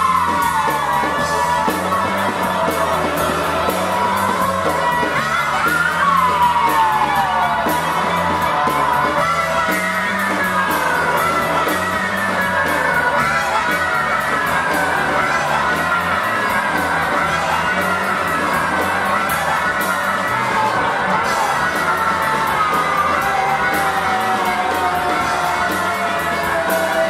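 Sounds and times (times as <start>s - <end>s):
high wailing sliding tones: 0.0s - 27.0s
live rock band: 0.0s - 27.0s.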